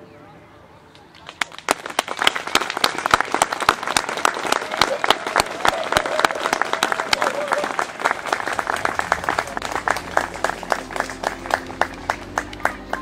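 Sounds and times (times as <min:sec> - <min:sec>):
audience applause: 0:01.3 - 0:13.0.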